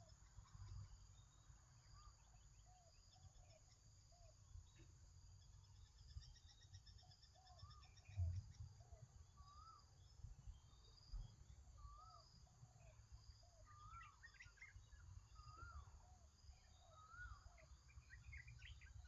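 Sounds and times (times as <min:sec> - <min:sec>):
bird chirps: 0:00.0 - 0:19.0.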